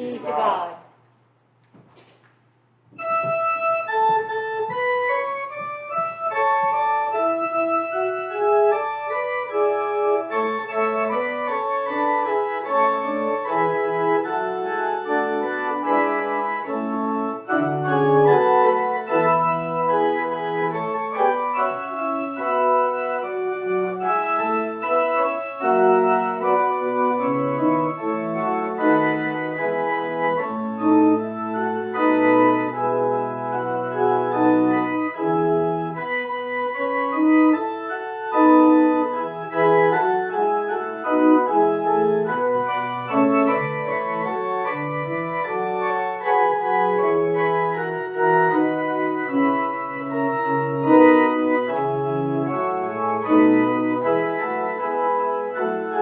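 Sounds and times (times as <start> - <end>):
pipe organ playing: 2.9 - 56.0.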